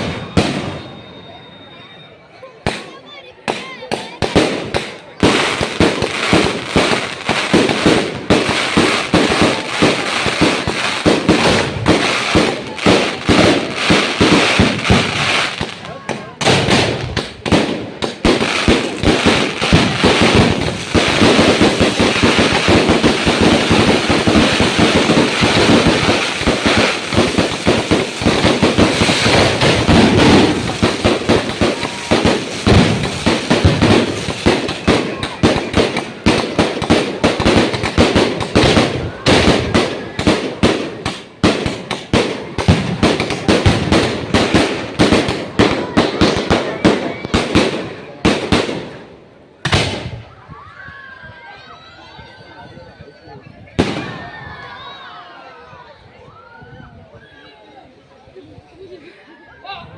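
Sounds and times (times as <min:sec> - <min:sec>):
fireworks bangs and pops: 0:00.0 - 0:01.1, 0:02.6 - 0:50.3, 0:53.8 - 0:54.6.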